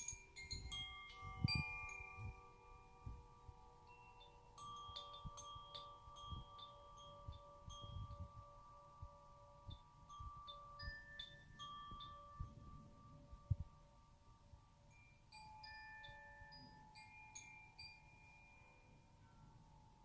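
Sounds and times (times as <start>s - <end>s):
wind chime tinkling: 0.0s - 20.0s.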